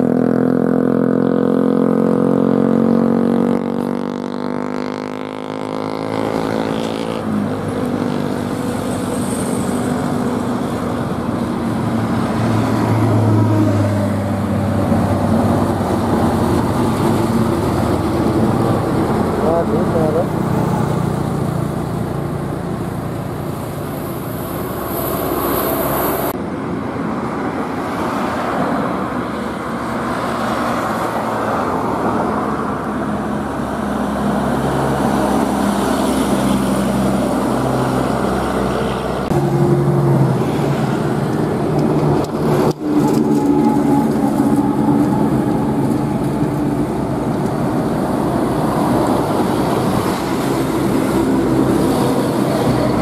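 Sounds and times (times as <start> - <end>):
heavy diesel trucks driving past: 0.0 - 53.0
steady traffic noise: 0.0 - 53.0.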